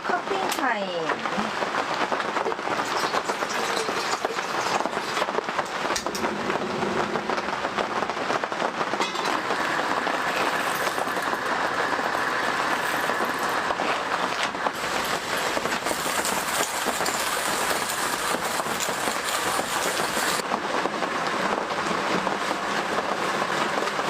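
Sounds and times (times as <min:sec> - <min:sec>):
heavy rain on a tent: 0:00.0 - 0:24.0.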